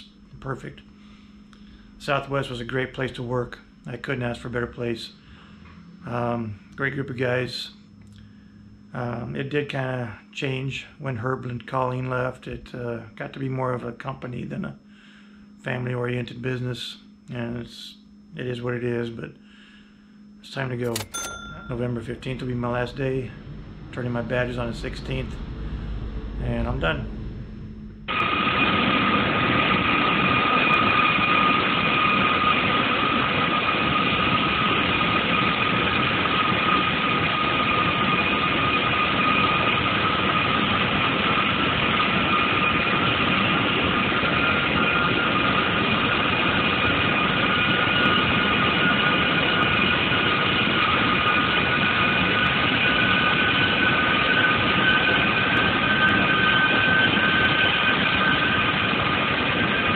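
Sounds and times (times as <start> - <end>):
jet engines running: 0.0 - 9.9, 19.8 - 59.9
second high engine whine: 0.0 - 59.9.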